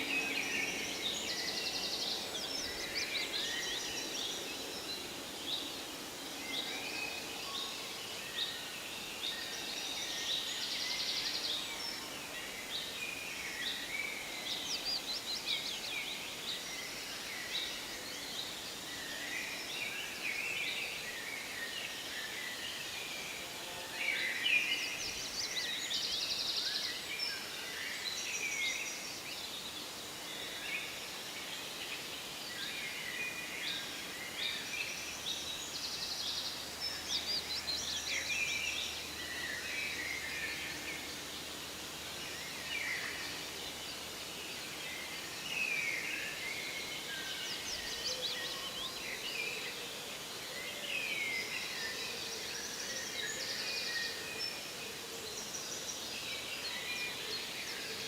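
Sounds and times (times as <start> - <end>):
faint steady background noise: 0.0 - 58.0.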